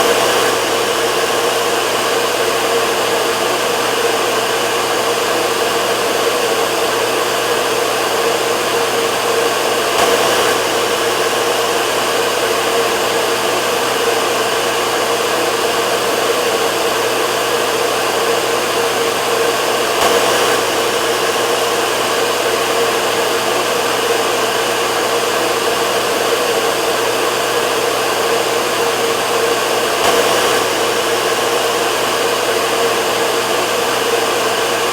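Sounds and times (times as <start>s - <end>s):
hair dryer running: 0.0s - 34.9s.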